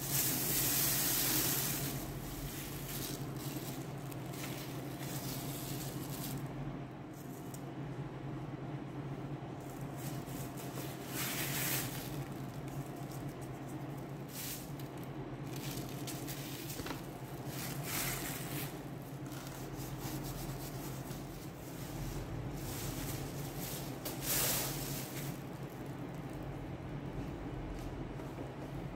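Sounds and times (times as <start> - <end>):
plastic sheet crinkling: 0.0 - 6.6, 9.6 - 26.6
steady low hum: 0.0 - 28.9.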